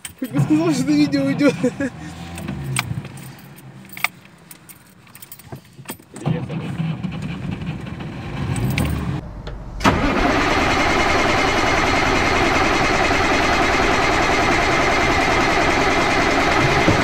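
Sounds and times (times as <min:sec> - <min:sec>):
car engine starting and running: 0:00.0 - 0:17.0.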